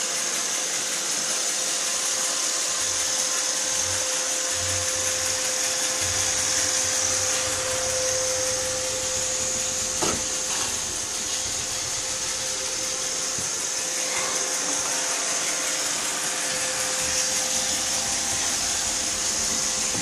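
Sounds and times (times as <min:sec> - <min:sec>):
high hiss: 0:00.0 - 0:20.0
robot vacuum whirring: 0:00.0 - 0:20.0
thin midrange whine: 0:01.8 - 0:20.0.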